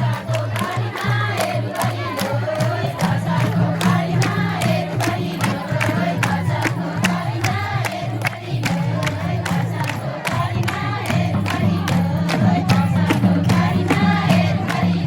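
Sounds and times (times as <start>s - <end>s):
crowd: 0.0s - 15.0s
steady drum beat: 0.0s - 15.0s
voices singing folk song: 0.0s - 15.0s.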